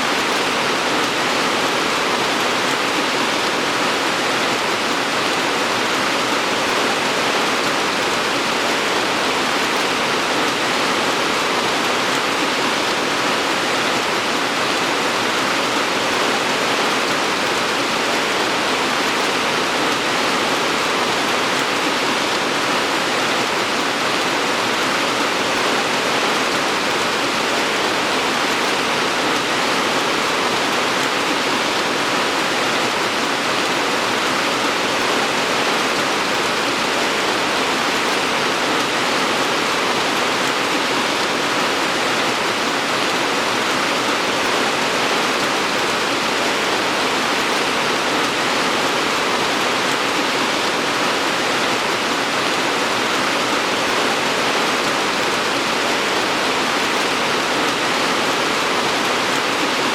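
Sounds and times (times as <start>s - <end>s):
dense rainfall hiss: 0.0s - 59.9s.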